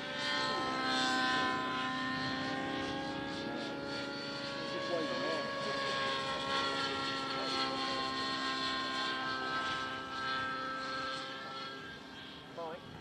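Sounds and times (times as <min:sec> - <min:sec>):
model helicopter engine whine: 0:00.0 - 0:13.0.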